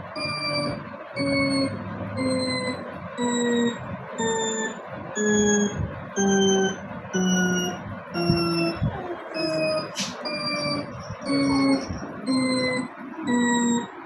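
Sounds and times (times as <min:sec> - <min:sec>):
descending electronic tones: 0:00.0 - 0:14.0.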